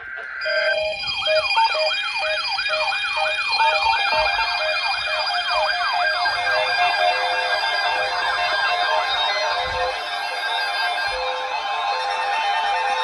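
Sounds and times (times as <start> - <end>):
electronic siren yelping: 0.0 - 11.2
steady alarm tones: 0.0 - 11.6.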